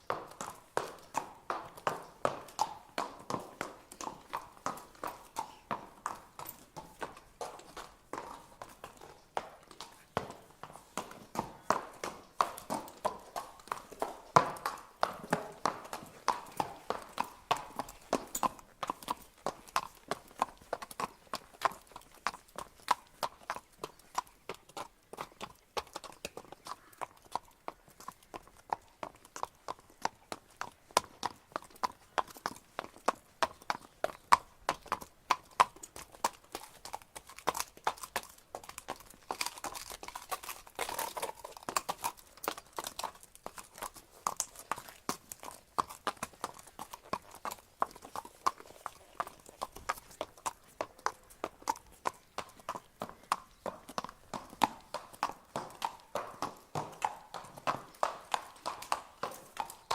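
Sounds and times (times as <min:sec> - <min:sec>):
horse hooves clip-clopping: 0:00.0 - 0:59.9.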